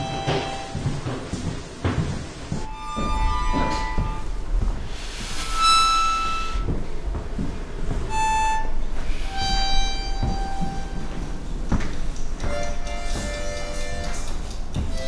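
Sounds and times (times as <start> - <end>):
steady low hum: 0.0 - 15.0
slow held musical notes: 2.6 - 15.0.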